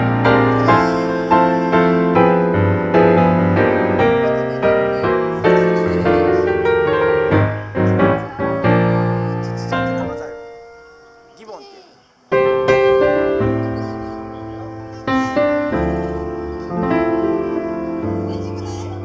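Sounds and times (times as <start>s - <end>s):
piano music: 0.0s - 11.7s, 12.3s - 19.0s.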